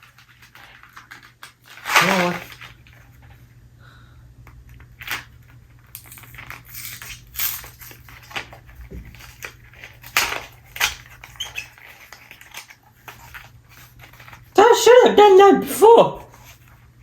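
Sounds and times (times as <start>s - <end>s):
candy packaging crackling: 0.0s - 3.4s, 4.5s - 17.0s.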